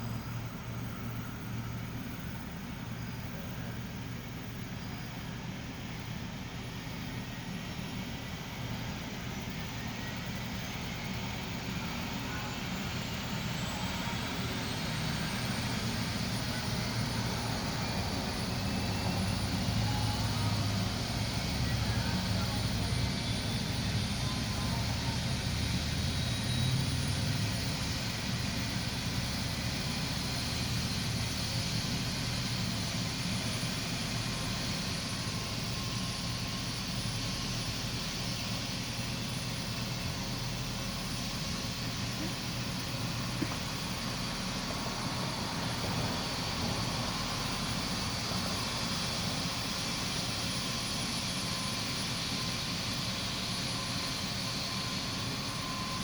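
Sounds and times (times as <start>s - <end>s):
helicopter engine and rotor idling: 0.0s - 56.0s.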